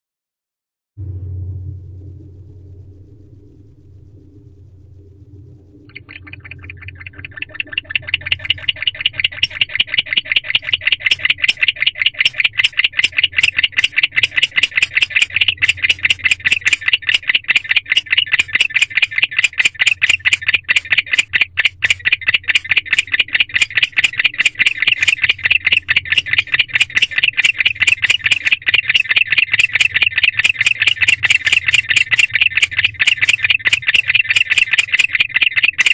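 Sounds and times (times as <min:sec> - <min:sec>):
owl high chirps: 0:05.9 - 0:35.9.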